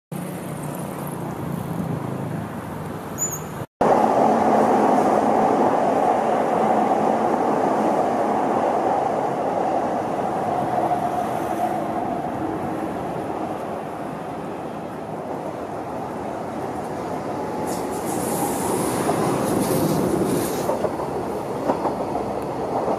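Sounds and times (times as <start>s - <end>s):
city background hum: 0.1s - 22.9s
train wheels rumbling on rail: 3.8s - 22.9s.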